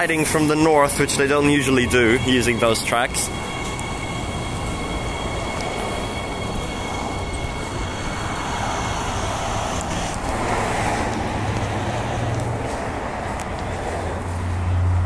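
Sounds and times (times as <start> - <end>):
electric train whine: 0.0 - 15.0
freeway traffic noise: 0.0 - 15.0.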